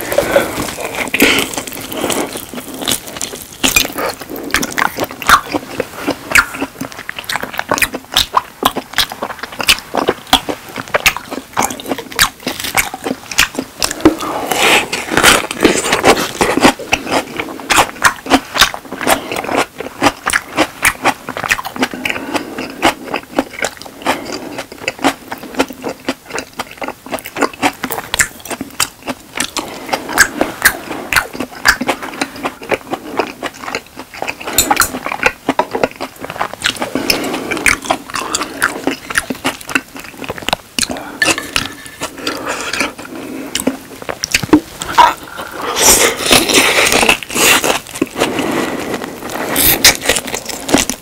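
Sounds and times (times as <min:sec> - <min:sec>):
person chewing steak: 0:00.0 - 0:51.0.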